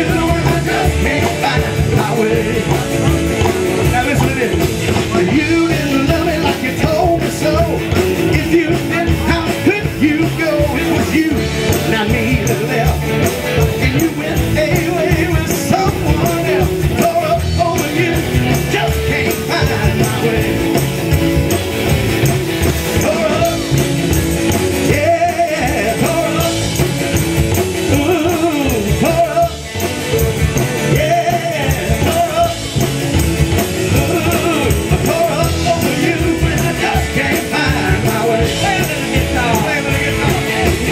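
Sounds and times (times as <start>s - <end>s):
man singing into microphone: 0.0s - 20.9s, 22.9s - 23.8s, 24.8s - 26.8s, 27.8s - 29.8s, 30.6s - 32.9s, 33.8s - 40.9s
drums: 0.0s - 40.9s
electric guitars: 0.0s - 40.9s
slap upright bass: 0.0s - 40.9s.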